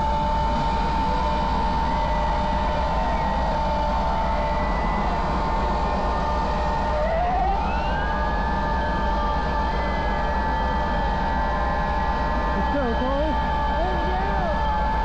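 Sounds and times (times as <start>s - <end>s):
high steady whine: 0.0s - 15.0s
rising whine: 0.0s - 15.0s.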